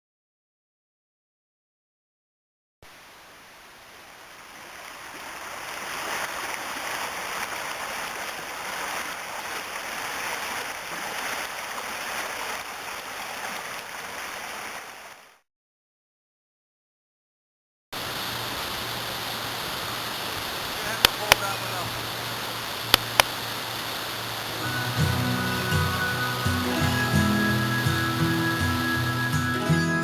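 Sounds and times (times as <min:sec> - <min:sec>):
creek water rushing: 0:02.9 - 0:15.3, 0:18.0 - 0:30.0.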